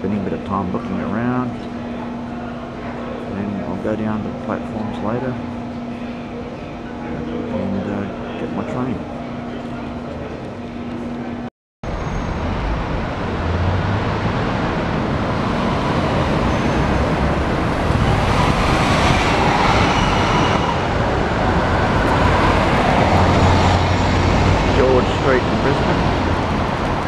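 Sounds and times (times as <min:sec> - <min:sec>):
bus approaching: 0:00.0 - 0:27.0
city street traffic: 0:00.0 - 0:27.0.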